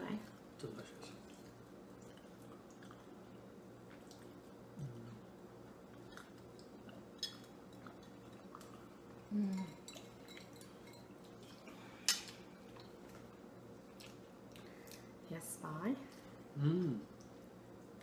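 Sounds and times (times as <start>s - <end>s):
faint room hum: 0.0s - 18.0s
soft chewing: 0.2s - 15.2s, 16.0s - 18.0s.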